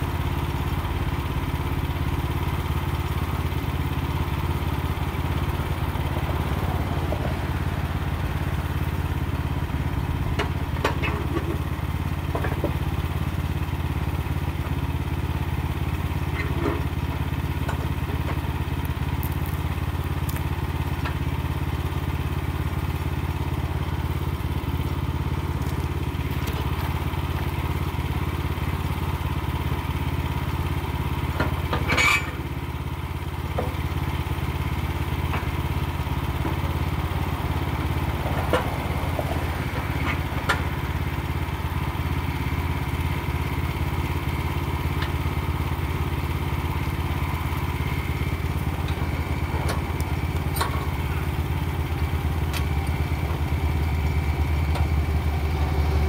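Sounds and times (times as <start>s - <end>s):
gas engine idling: 0.0s - 56.0s.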